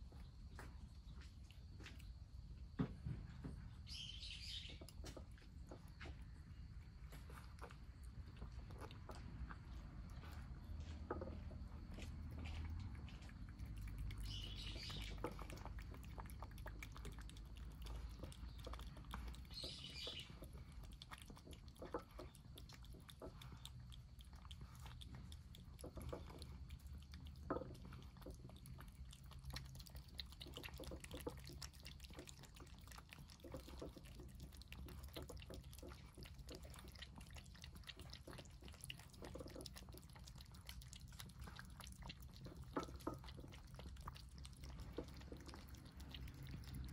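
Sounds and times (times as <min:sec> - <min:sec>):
cats chewing and lapping: 0:00.0 - 0:46.9
low steady hum: 0:00.0 - 0:46.9.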